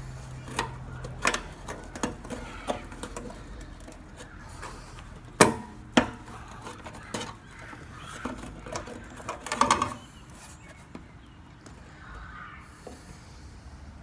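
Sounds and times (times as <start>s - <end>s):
metal rattling: 0.0s - 11.2s.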